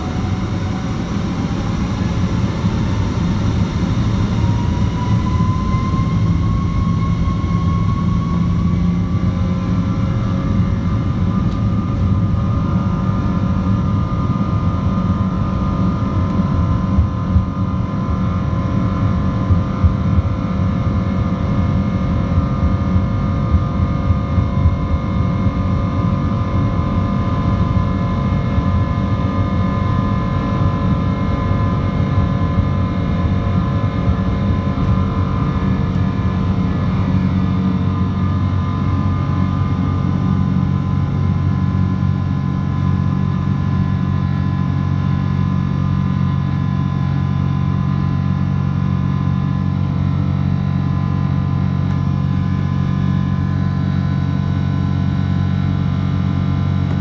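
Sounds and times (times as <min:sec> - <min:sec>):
jet engine whine and rumble: 0:00.0 - 0:57.0.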